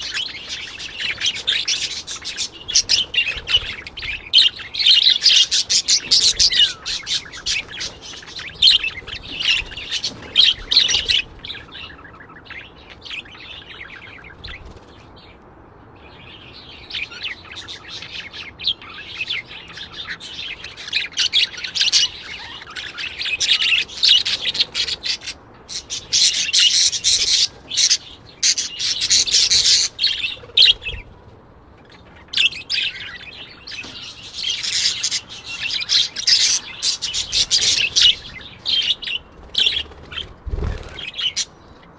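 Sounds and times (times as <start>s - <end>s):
birds chirping and twittering: 0.0s - 41.9s.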